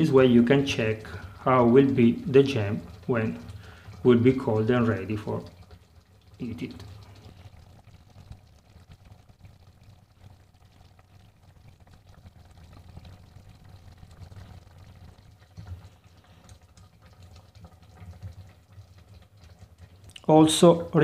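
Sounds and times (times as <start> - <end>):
jam bubbling and popping: 0.0 - 21.0
low steady rumble: 0.0 - 21.0.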